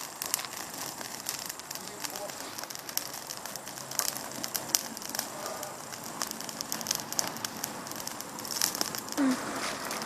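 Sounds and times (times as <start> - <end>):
bonfire crackling and popping: 0.0 - 10.0
hiss of burning: 0.0 - 10.0.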